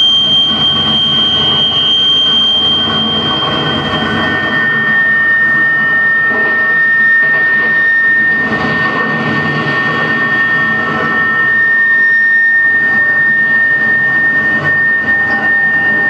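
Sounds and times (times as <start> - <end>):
rumbling synthesizer drone: 0.0 - 16.0
steady high tone: 0.0 - 16.0.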